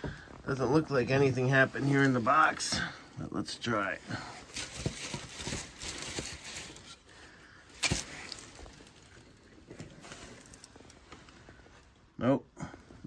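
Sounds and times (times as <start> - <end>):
rustling: 0.0 - 12.2.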